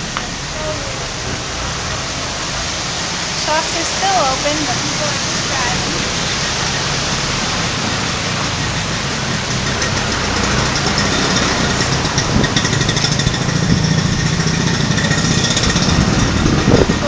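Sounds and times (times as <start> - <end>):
steady hiss: 0.0 - 15.8
vehicle engine running: 0.0 - 17.0.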